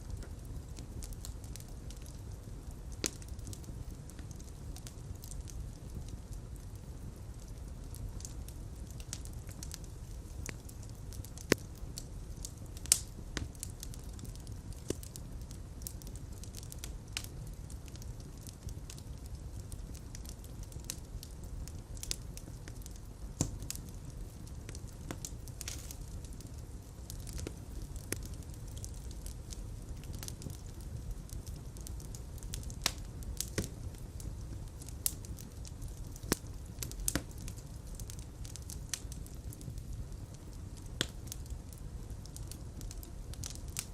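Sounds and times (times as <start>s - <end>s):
fire crackling and popping: 0.0s - 43.9s
low rumble of flame: 0.0s - 43.9s.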